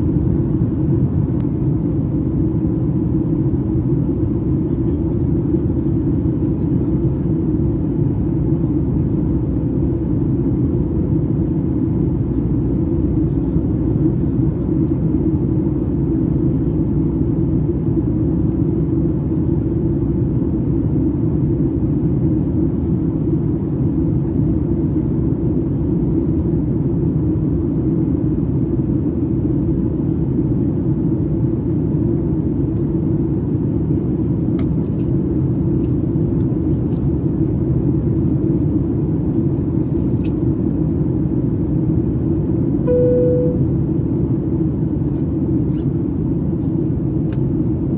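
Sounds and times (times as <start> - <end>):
jet engines rumbling in cabin: 0.0 - 47.9.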